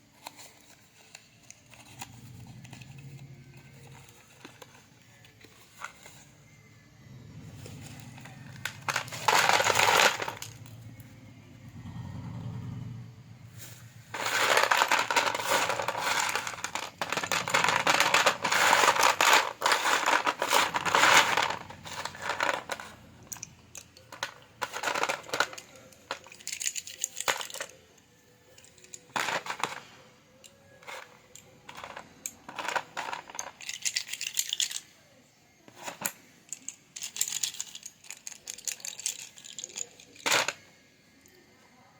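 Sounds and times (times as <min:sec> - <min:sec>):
slate pencils clicking and rattling: 0:00.0 - 0:06.4, 0:07.5 - 0:11.1, 0:13.6 - 0:27.8, 0:28.5 - 0:35.0, 0:35.7 - 0:41.4.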